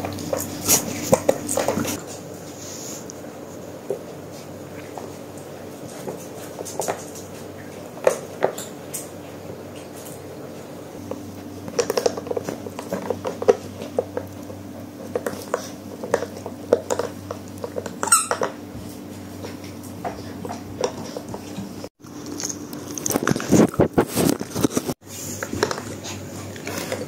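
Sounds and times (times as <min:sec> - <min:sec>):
puppy gnawing rubber toy: 0:00.0 - 0:02.3, 0:03.8 - 0:10.3, 0:11.0 - 0:27.0.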